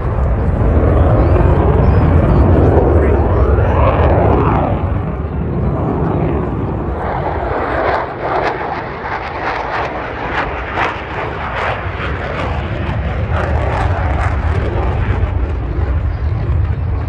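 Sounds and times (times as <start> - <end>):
military jet flying low: 0.0 - 17.0.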